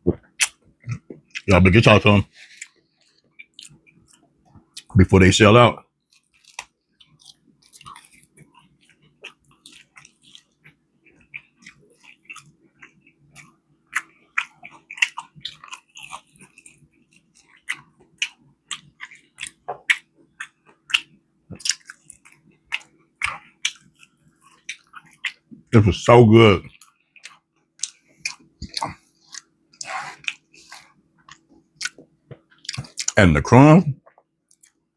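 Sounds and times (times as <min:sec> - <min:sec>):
chewing crunchy food: 0:00.1 - 0:01.5, 0:02.3 - 0:04.9, 0:06.0 - 0:25.7, 0:26.6 - 0:33.2, 0:34.0 - 0:34.9.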